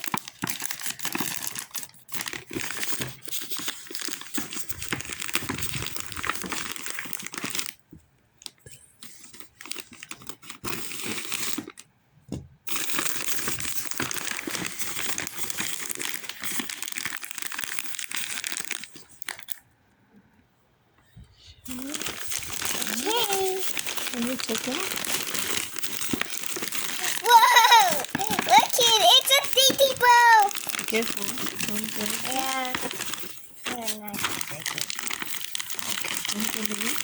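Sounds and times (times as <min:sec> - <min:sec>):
packaging crinkling and tearing: 0:00.0 - 0:07.8, 0:08.4 - 0:11.9, 0:12.7 - 0:19.7, 0:21.7 - 0:37.0.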